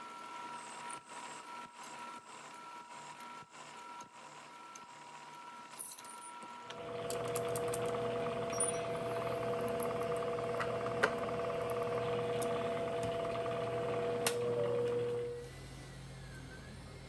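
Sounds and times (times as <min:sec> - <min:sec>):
milling machine hum with whine: 0:00.0 - 0:17.0.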